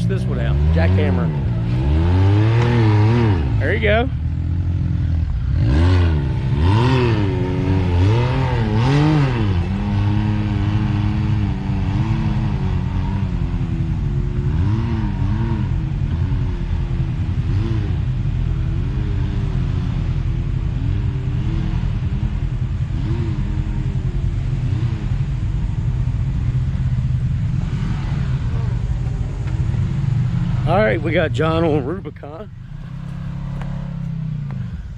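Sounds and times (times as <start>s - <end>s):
utv engine revving and idling: 0.0s - 34.9s.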